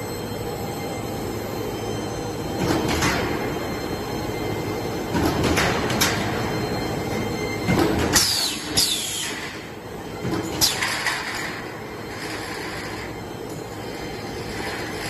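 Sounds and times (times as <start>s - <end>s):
roll forming machine running: 0.0s - 15.0s.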